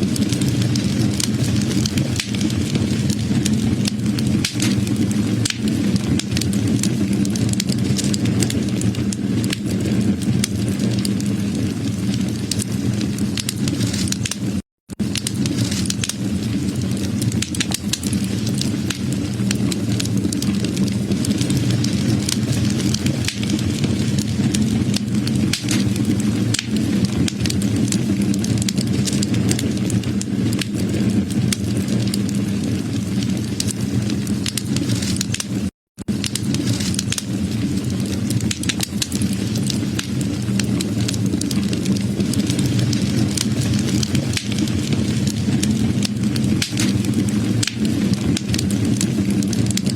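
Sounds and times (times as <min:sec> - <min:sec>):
burning wood crackling: 0:00.0 - 0:49.9.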